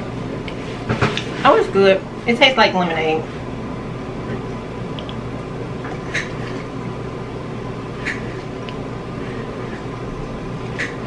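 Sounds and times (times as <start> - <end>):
low hum and room noise: 0.0 - 11.0.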